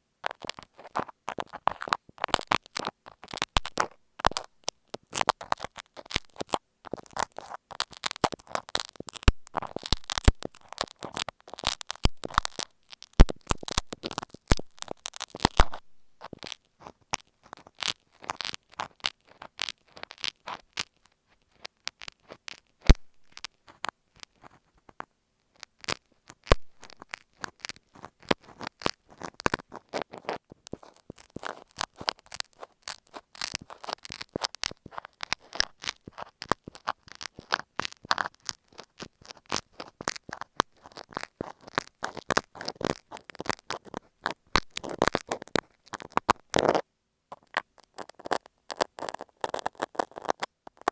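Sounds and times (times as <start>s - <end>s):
pins scratching on tape: 0.2s - 50.9s.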